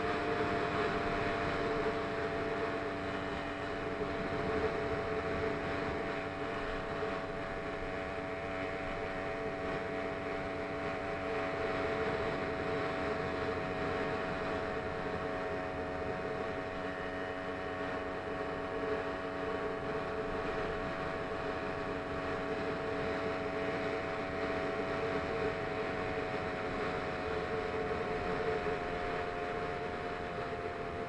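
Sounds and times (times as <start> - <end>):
motorized bicycle engine droning: 0.0 - 31.0.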